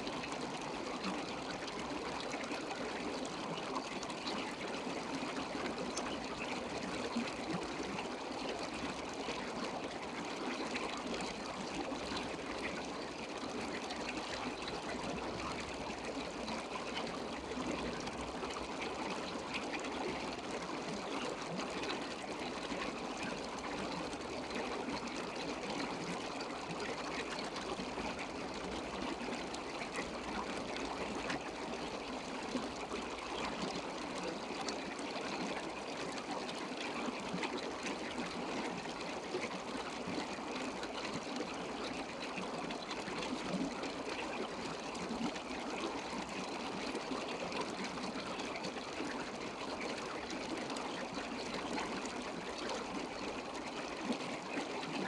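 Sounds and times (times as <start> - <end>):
water trickling and bubbling: 0.0 - 55.0.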